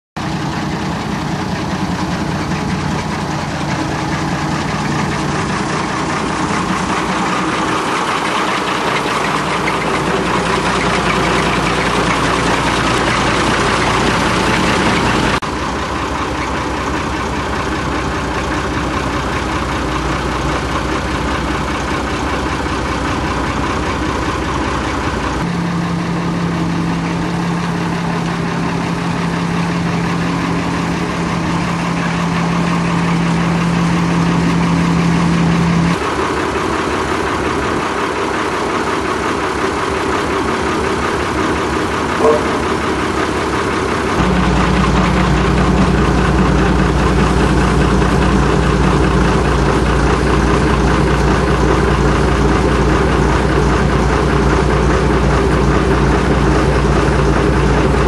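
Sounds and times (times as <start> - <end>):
crane engine running: 0.2 - 58.0.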